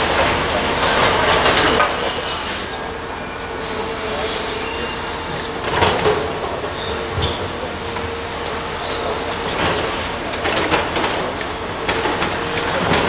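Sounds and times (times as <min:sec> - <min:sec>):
heavy machinery whining: 0:00.0 - 0:13.0.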